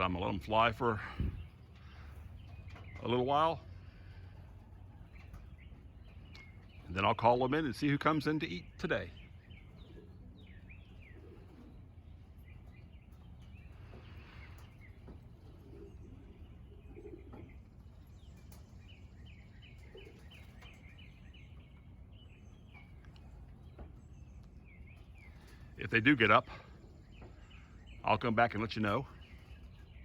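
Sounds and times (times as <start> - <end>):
pigeons cooing: 0.0 - 30.0
small birds chirping: 0.0 - 30.0.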